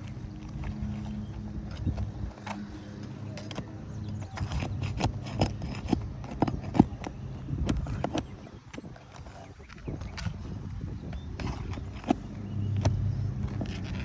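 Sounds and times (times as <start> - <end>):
hand tools tapping on shingles: 0.0 - 14.0
low steady rumble: 0.0 - 14.0.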